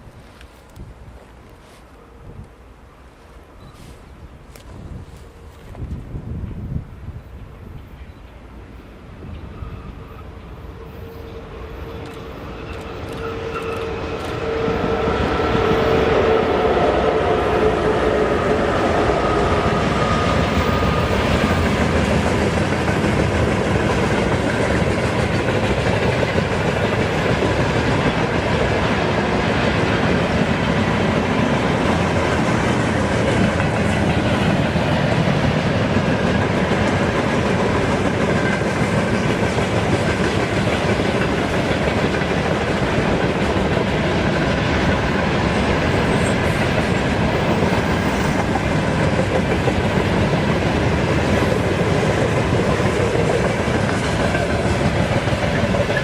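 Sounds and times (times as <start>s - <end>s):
electric locomotive whine: 0.0s - 56.0s
train wagons rumbling on rails: 0.0s - 56.0s.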